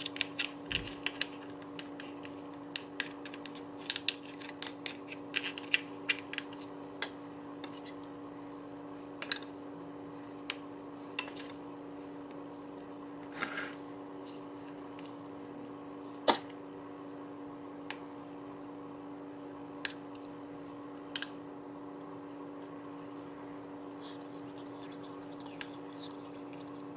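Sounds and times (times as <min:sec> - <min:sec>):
steady hum: 0:00.0 - 0:26.9.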